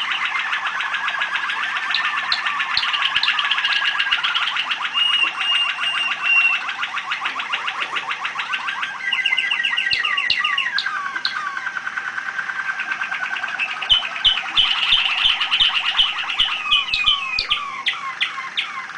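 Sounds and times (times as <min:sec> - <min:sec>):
canary singing trills: 0:00.0 - 0:18.9.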